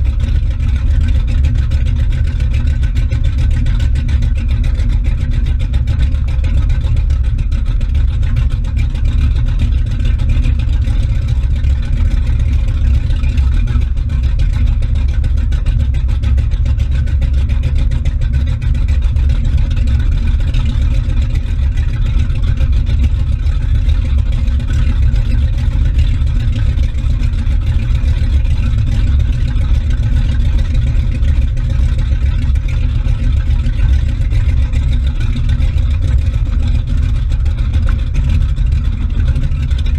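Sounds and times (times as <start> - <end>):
motorboat engine rumble: 0.0 - 39.9
wake churning and splashing: 0.0 - 39.9.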